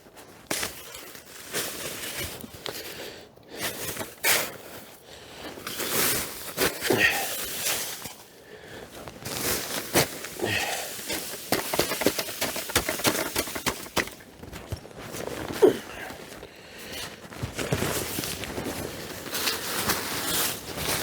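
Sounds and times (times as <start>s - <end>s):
rustling and crunching in snow: 0.0s - 21.0s.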